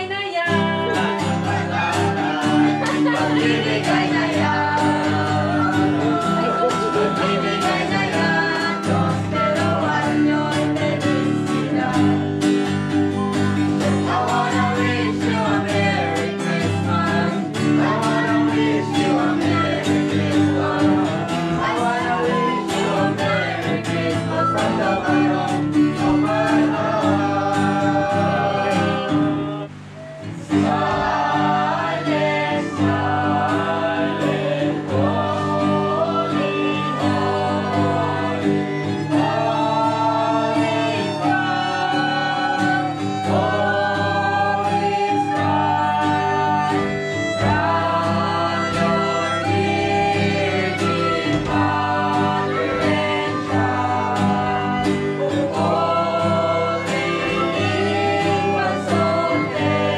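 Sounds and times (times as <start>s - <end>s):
group singing a carol: 0.0s - 59.9s
guitar: 0.0s - 59.9s.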